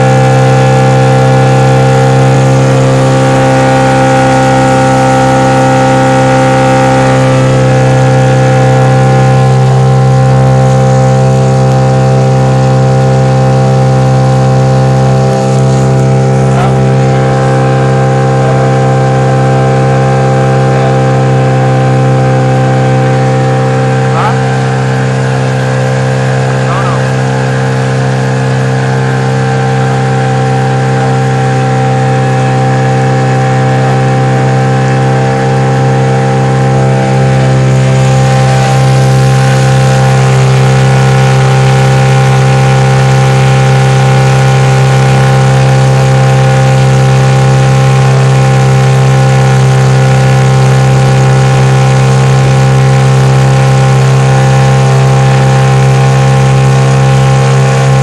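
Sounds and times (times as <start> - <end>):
motorboat engine running: 0.0 - 58.0.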